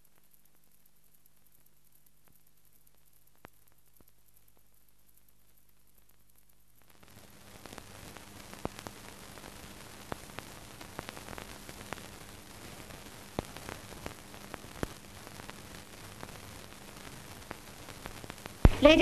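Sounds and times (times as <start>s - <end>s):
crackling clicks and pops: 0.0s - 19.0s
film soundtrack hiss and hum: 0.0s - 19.0s.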